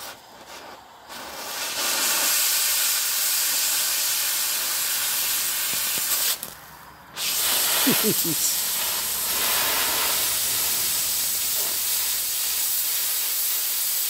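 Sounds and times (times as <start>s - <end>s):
cutting torch hissing: 0.0s - 14.0s.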